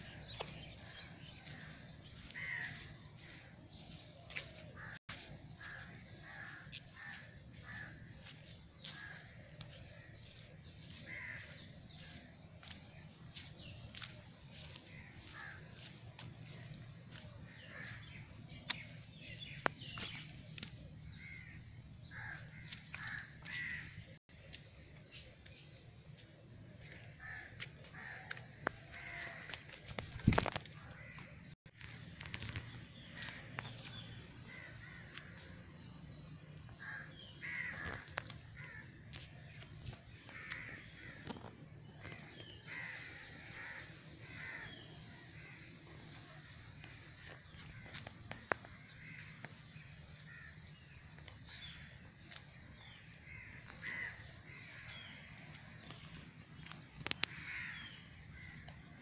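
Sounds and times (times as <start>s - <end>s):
birds calling: 0.0s - 59.0s.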